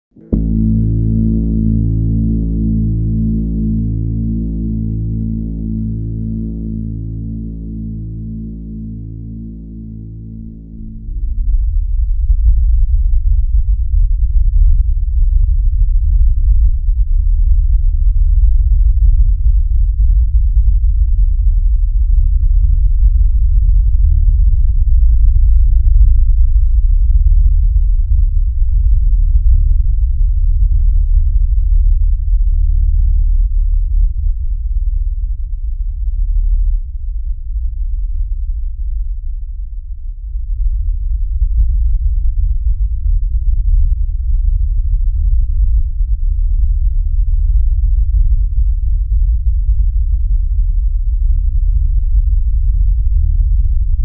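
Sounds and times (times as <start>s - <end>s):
low rumbling drone: 0.0s - 54.0s.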